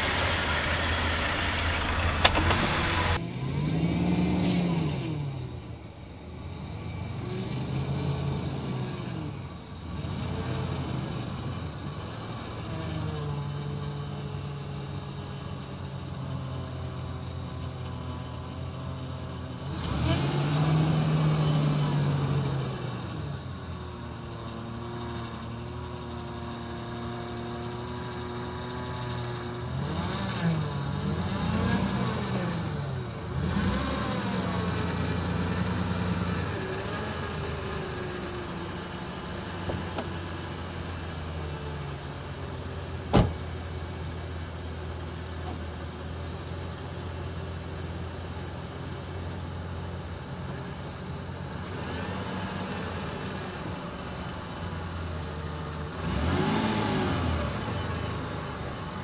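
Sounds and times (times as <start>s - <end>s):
truck engine at low revs: 0.0s - 59.0s.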